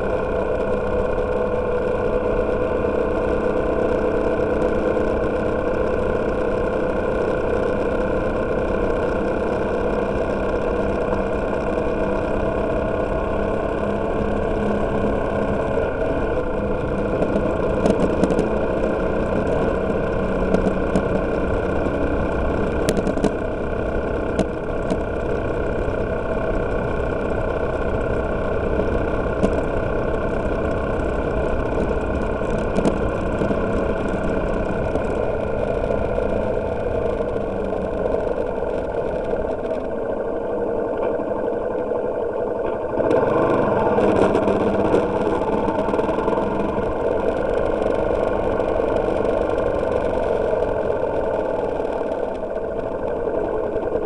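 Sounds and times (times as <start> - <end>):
motorcycle engine cruising: 0.0 - 54.0
road and wind noise: 0.0 - 54.0.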